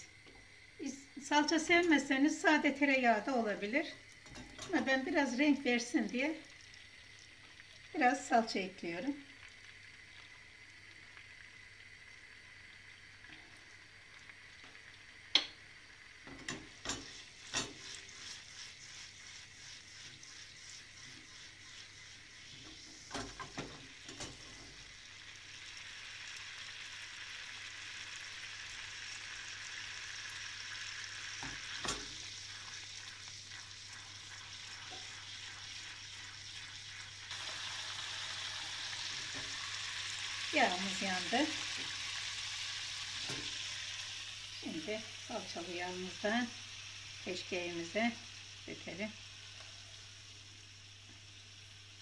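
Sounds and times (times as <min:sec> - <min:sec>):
sizzling in a frying pan: 0:00.0 - 0:52.0.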